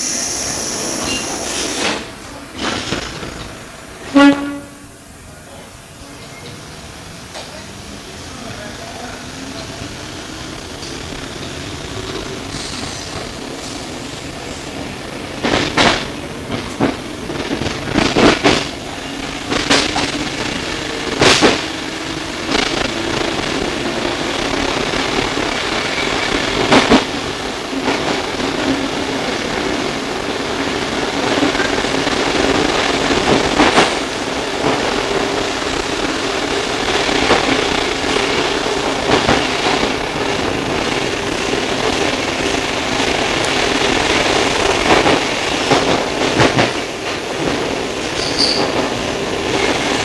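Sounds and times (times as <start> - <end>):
sharp train clacks: 0.0 - 4.8, 8.4 - 50.0
train rumble and hum: 0.0 - 50.0.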